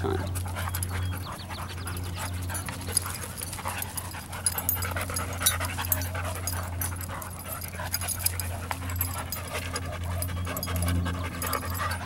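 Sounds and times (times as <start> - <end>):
dogs play wrestling: 0.0 - 12.0
steady low hum: 0.0 - 12.0.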